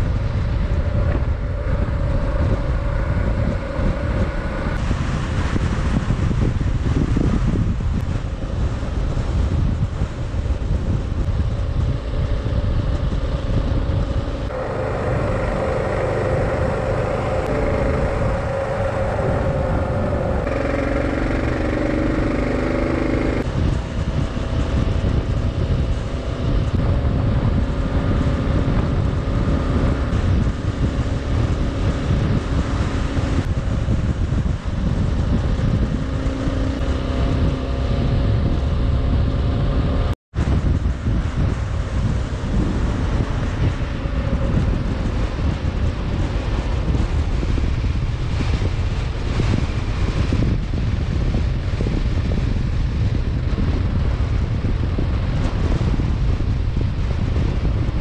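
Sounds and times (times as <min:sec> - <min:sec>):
motorcycle engine cruising: 0:00.0 - 0:58.0
wind rumble on microphone: 0:00.0 - 0:58.0.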